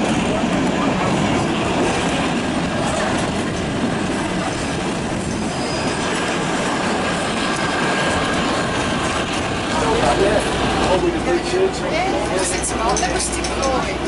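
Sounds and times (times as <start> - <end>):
train wheels on track: 0.0 - 14.0.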